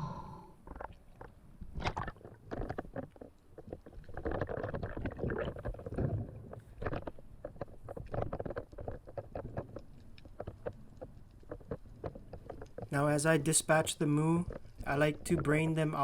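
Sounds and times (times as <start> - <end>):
water churning underwater: 0.0 - 16.0.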